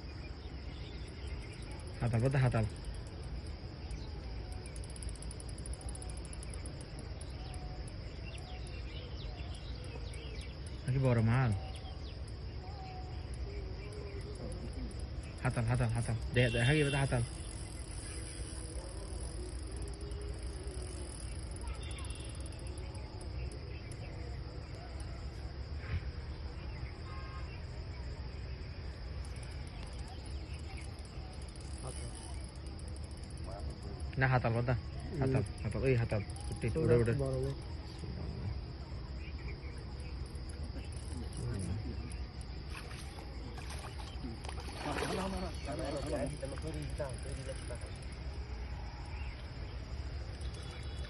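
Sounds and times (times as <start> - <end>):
insects chirping trill: 0.0 - 51.0.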